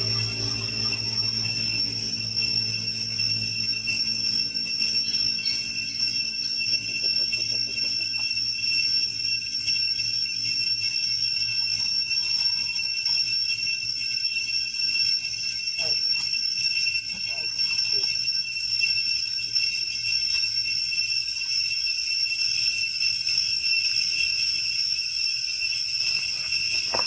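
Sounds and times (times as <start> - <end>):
cicada chorus buzzing: 0.0 - 27.0.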